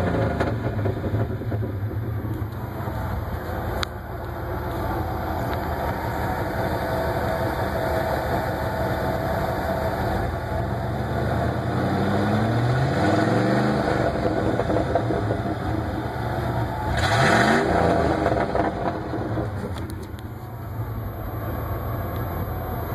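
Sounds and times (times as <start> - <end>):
truck engine idling and revving: 0.0 - 22.9.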